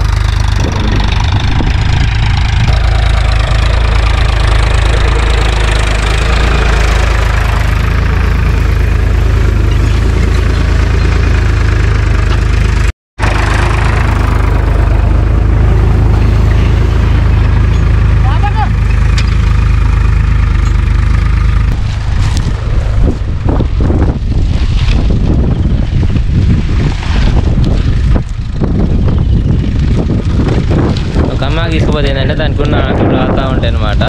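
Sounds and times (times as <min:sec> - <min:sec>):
tractor diesel engine rumbling: 0:00.0 - 0:34.0.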